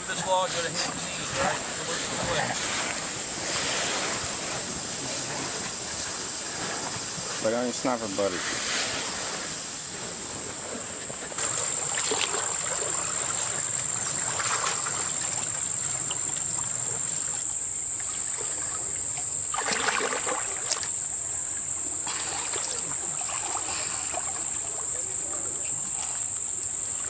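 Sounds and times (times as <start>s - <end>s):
water and mud splashing: 0.0s - 27.0s.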